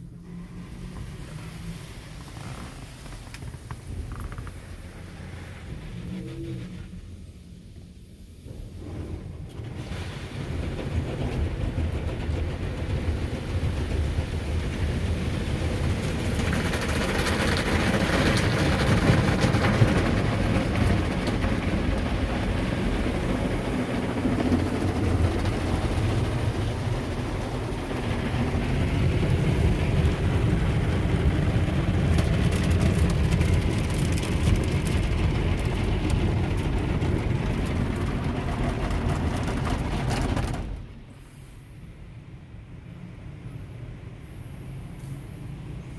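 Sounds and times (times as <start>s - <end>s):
car wash rumble: 0.0s - 45.9s.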